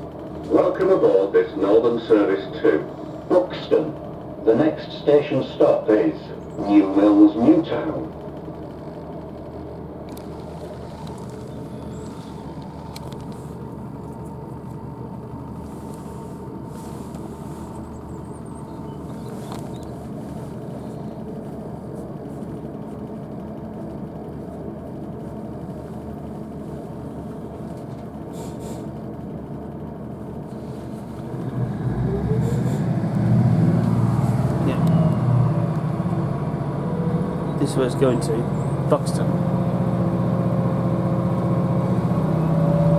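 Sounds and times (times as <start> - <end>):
diesel engine droning: 0.0 - 42.9
train wheel and rail rumble: 0.0 - 42.9.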